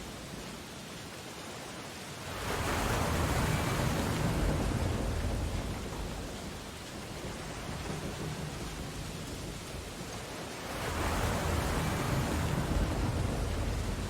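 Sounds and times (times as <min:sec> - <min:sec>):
steady wash of the sea: 0:00.0 - 0:14.0
ocean wave breaking: 0:02.2 - 0:14.0.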